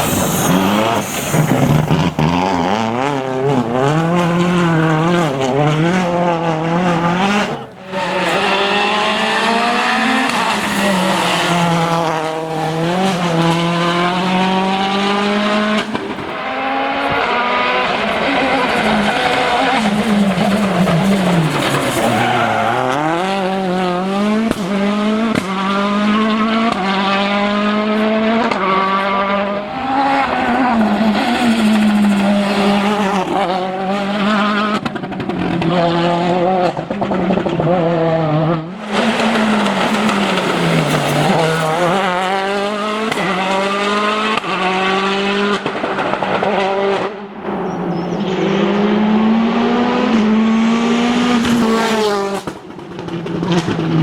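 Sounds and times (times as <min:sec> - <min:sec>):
rally car engine revving hard: 0:00.0 - 0:54.0.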